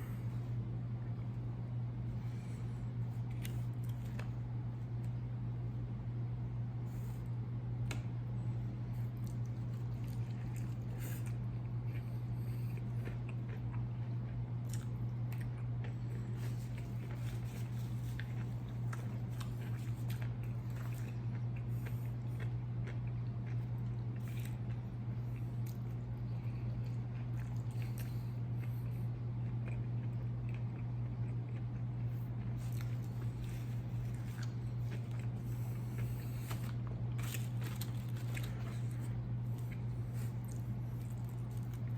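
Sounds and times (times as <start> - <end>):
chewing crunchy food: 2.2 - 5.2, 7.9 - 41.9.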